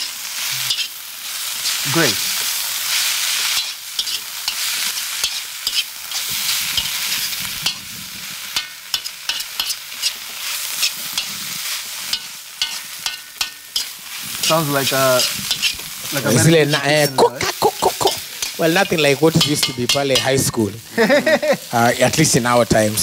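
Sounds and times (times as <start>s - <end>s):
food sizzling in a hot pan: 0.0s - 23.0s.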